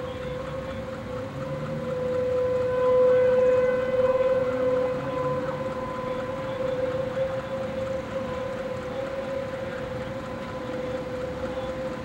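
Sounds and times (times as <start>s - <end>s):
warning siren wailing: 0.0s - 12.0s.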